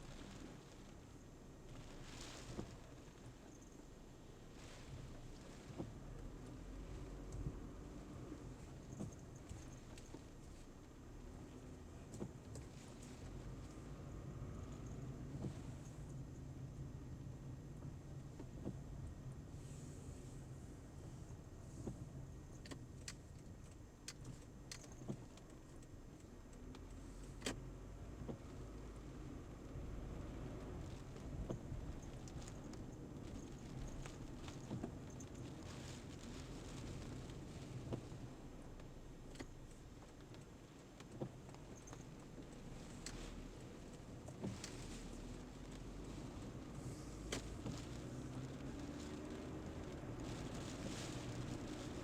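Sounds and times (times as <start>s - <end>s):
car driving rumble: 0.0s - 52.0s.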